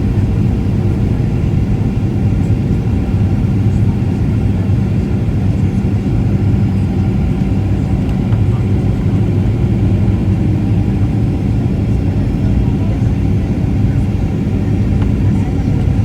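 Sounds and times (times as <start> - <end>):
airplane cabin engine rumble: 0.0 - 16.0
constant low hum: 0.0 - 16.0.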